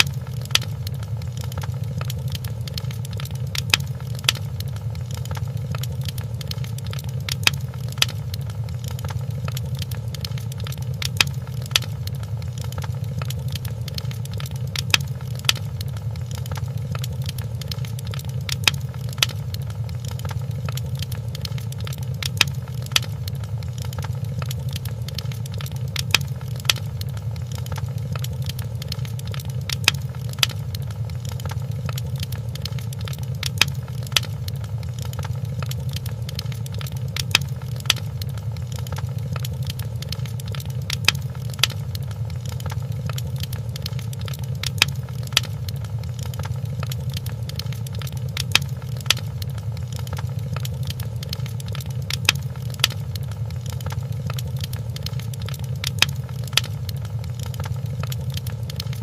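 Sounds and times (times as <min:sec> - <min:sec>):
fireplace crackling: 0:00.0 - 0:59.0
wood fire popping: 0:00.0 - 0:59.0.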